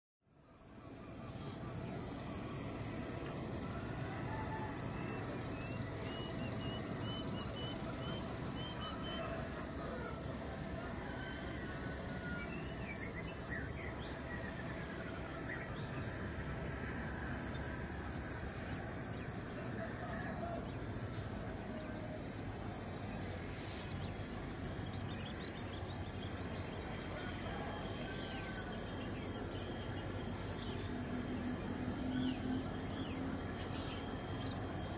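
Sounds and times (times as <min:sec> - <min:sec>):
crickets chirping: 0:00.3 - 0:34.9
insects trilling: 0:00.3 - 0:34.9.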